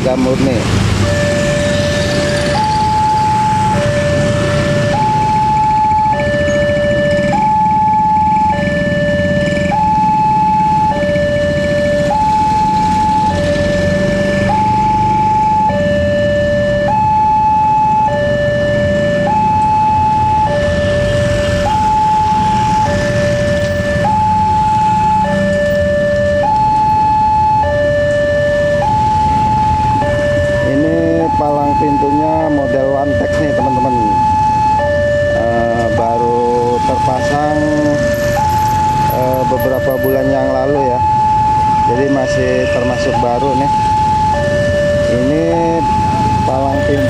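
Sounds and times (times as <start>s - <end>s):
car and motorbike engines: 0.0s - 47.0s
two-tone level crossing alarm: 0.0s - 47.0s.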